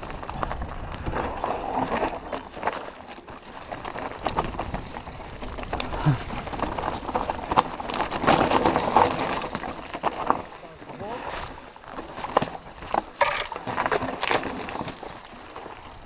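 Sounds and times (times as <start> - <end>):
bike rattling: 0.0 - 16.0
bike tyres over stones: 0.0 - 16.0.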